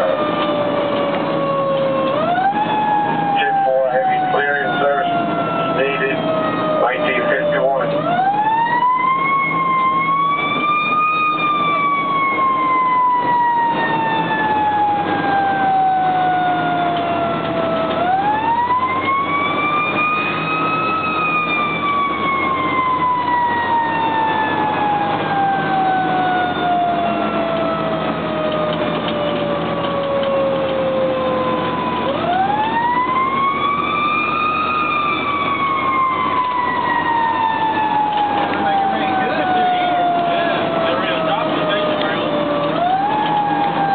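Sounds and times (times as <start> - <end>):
fire engine siren wailing: 0.0 - 43.9
truck engine running: 0.0 - 43.9.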